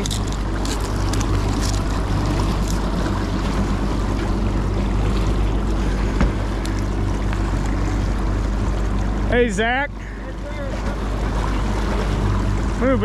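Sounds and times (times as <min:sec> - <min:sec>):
outboard motor running: 0:00.0 - 0:13.0
water rushing in wake: 0:00.0 - 0:13.0.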